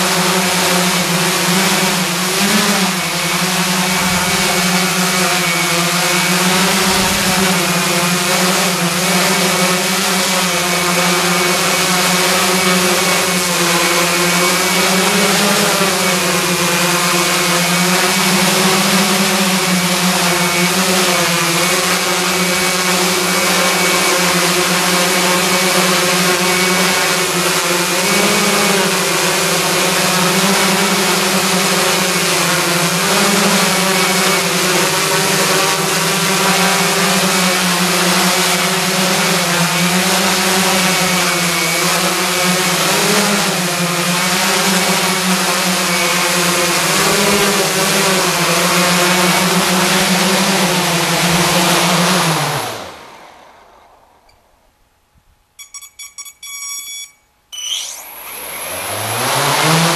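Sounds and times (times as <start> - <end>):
drone propellers buzzing hum: 0.0 - 54.8, 55.6 - 59.9.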